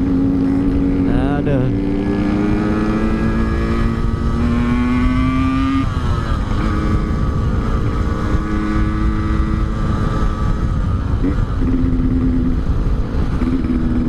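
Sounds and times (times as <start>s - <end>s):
motorcycle engine running: 0.0s - 14.0s
wind rumble: 0.0s - 14.0s.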